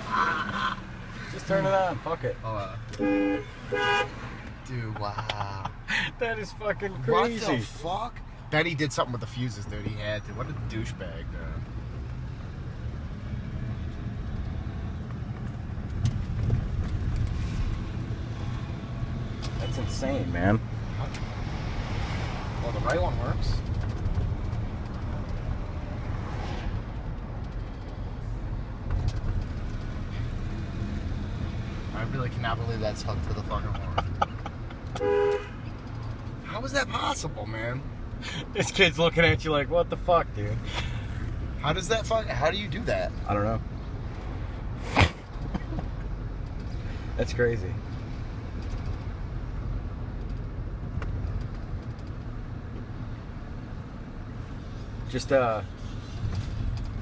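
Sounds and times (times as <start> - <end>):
truck road and engine rumble: 0.0 - 57.0.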